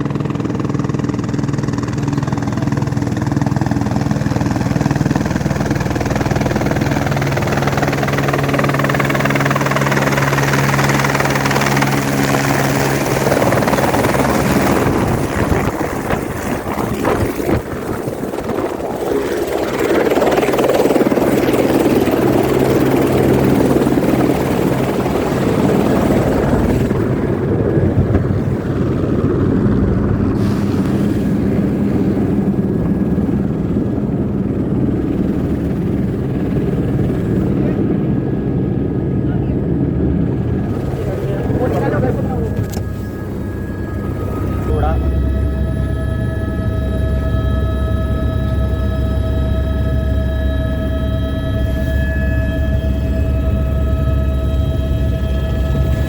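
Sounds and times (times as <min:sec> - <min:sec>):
helicopter turbine and rotor: 0:00.0 - 0:56.0.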